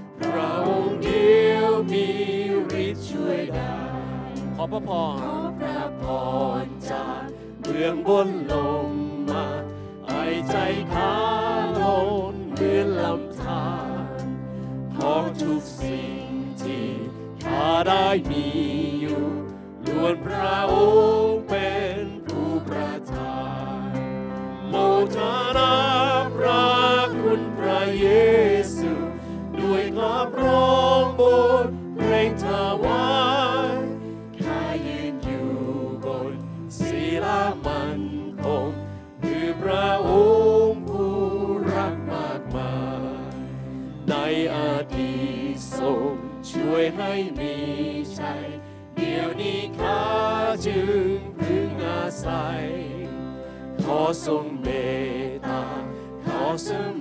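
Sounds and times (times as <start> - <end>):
band accompaniment with bass: 0.0 - 48.4, 49.0 - 56.9.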